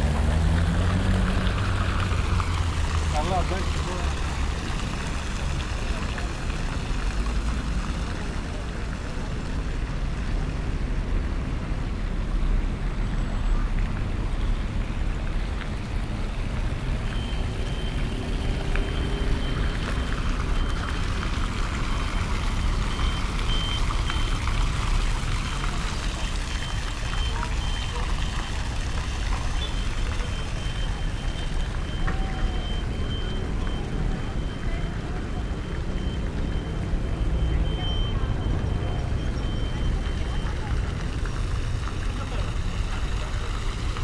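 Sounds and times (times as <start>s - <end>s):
low traffic rumble: 0.0s - 44.0s.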